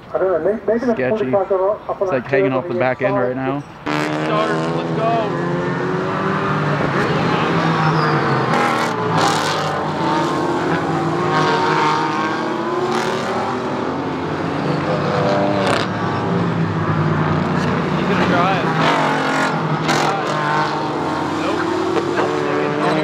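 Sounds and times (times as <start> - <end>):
race cars accelerating past: 3.8 - 23.0.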